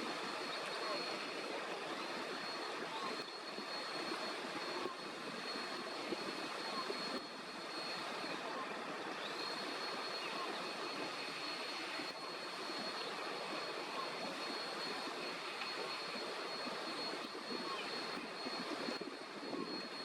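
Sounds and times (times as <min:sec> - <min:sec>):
rumble and hiss: 0:00.0 - 0:20.0.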